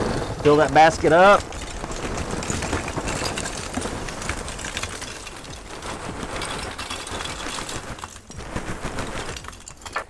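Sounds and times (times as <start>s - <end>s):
charcoal pouring clatter: 0.0s - 10.0s.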